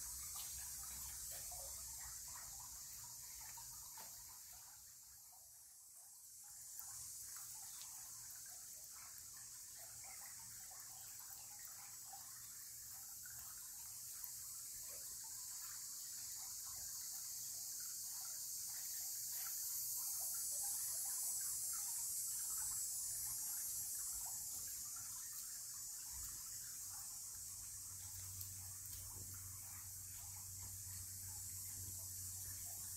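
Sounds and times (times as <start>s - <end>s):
steady high hiss: 0.0s - 32.9s
water trickling through stone channel: 0.0s - 32.9s.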